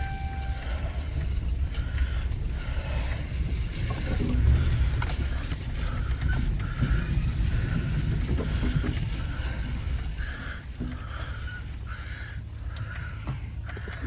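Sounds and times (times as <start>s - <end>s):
light clicks and rattles: 0.0s - 14.0s
truck engine and road rumble: 0.0s - 14.0s.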